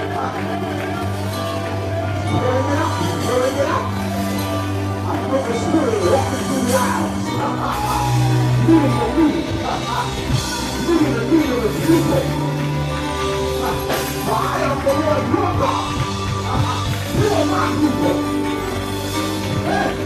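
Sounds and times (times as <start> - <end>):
live band playing praise music: 0.0 - 20.0.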